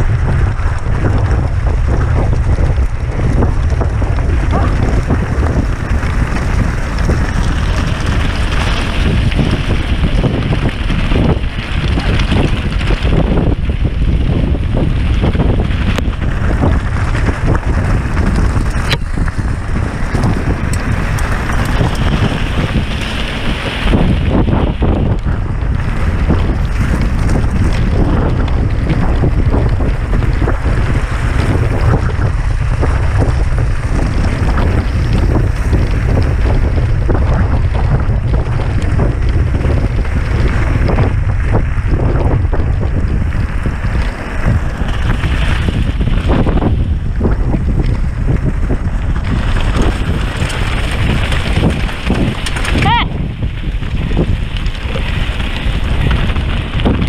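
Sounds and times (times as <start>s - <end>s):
bike clattering and rattling: 0.0s - 57.0s
tyre noise: 0.0s - 57.0s
wind buffeting microphone: 0.0s - 57.0s.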